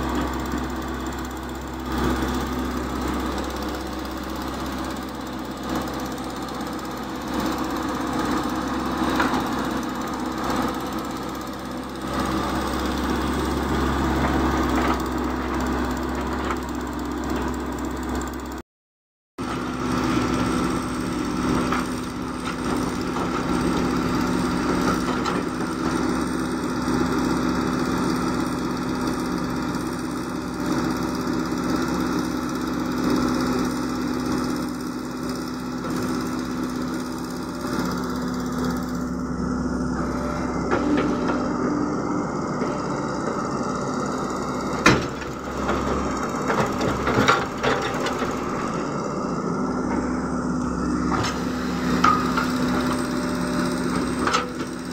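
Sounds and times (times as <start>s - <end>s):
excavator diesel engine running: 0.0s - 18.6s, 19.4s - 54.9s.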